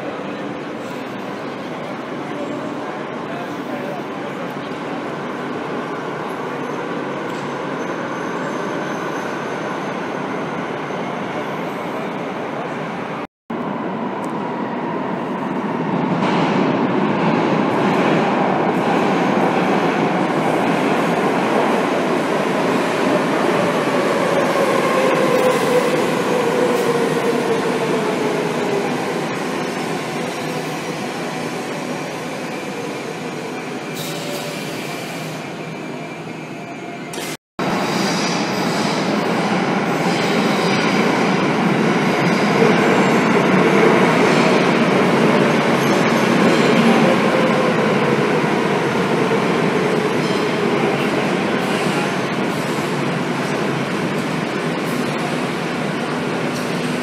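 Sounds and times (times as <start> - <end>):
metro train running past: 0.0 - 57.0.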